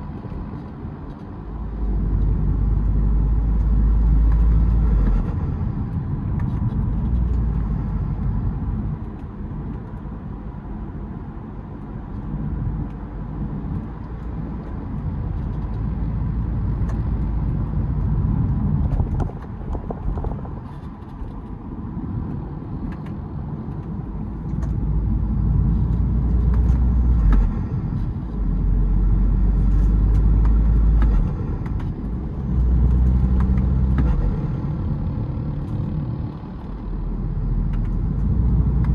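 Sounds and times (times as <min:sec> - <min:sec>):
car engine rumble: 0:00.0 - 0:38.9.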